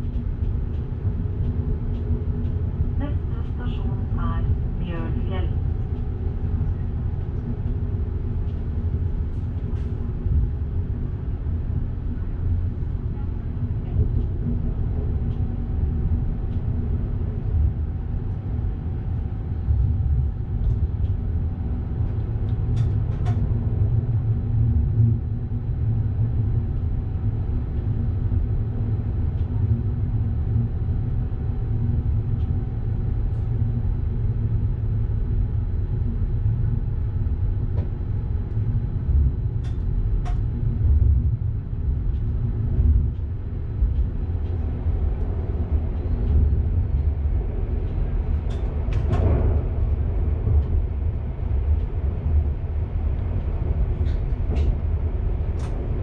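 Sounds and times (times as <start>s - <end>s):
electric train low rumble: 0.0s - 56.0s.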